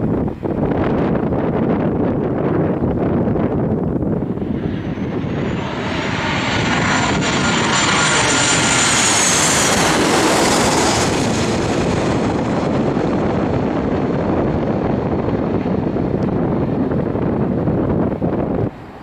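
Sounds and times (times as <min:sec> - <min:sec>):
wind buffeting microphone: 0:00.0 - 0:19.0
airliner passing low overhead: 0:00.2 - 0:19.0.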